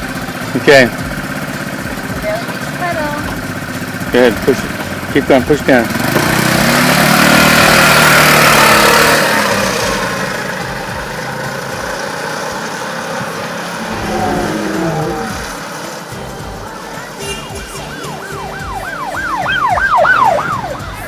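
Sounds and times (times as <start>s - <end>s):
small petrol engine revving: 0.0s - 21.0s
another engine passing: 0.7s - 20.8s.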